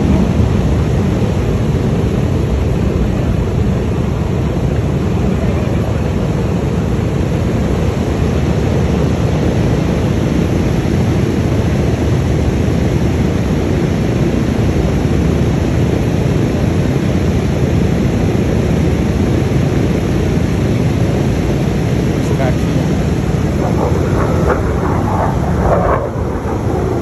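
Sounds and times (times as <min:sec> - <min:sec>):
propeller aircraft engines running: 0:00.0 - 0:27.0.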